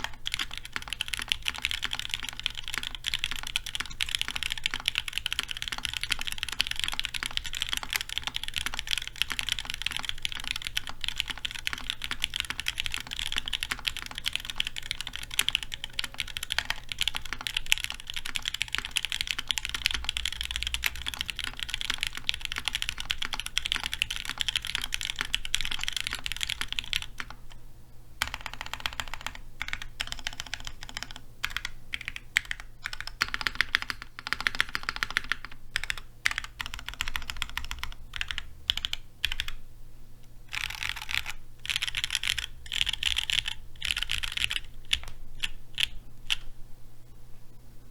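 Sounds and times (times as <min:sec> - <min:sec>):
mechanical keyboard typing: 0:00.0 - 0:27.6, 0:28.2 - 0:39.6, 0:40.5 - 0:46.5.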